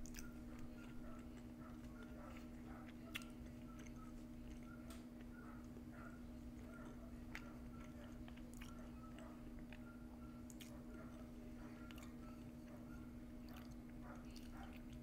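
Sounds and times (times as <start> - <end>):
mouth chewing food: 0.0 - 15.0
steady low hum: 0.0 - 15.0.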